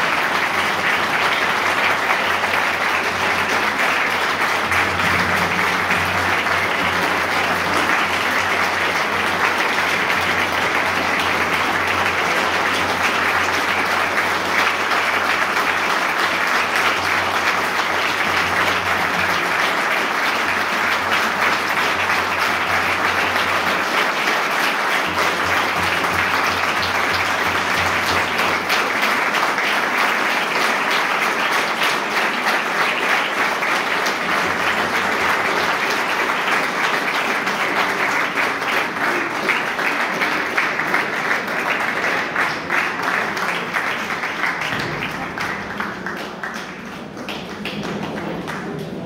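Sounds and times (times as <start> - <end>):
audience applauding: 0.0 - 49.0.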